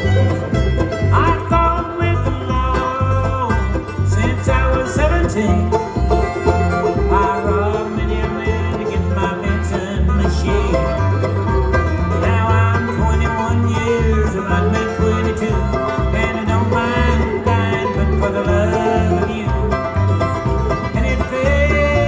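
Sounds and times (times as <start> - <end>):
guitar: 0.0 - 22.0
pulsing bass line: 0.0 - 22.0
rapid banjo picking: 0.0 - 22.0.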